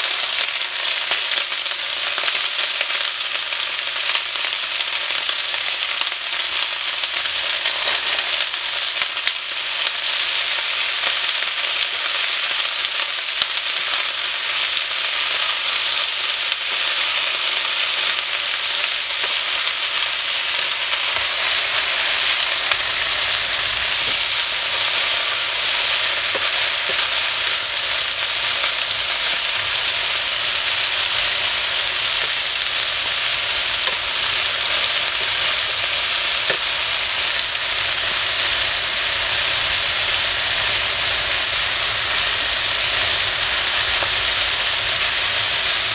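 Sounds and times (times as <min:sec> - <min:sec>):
food sizzling in pans: 0:00.0 - 0:45.9.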